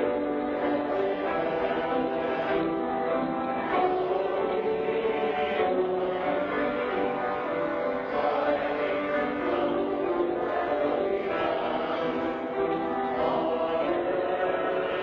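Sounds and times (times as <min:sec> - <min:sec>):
group singing slowly: 0:00.0 - 0:15.0
instrumental accompaniment: 0:00.0 - 0:15.0.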